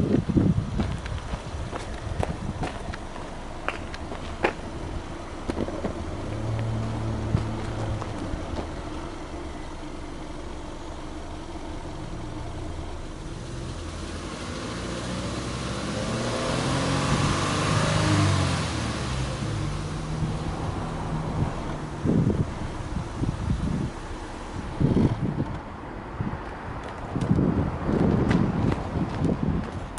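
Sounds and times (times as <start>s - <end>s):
car engine running: 0.0s - 29.2s.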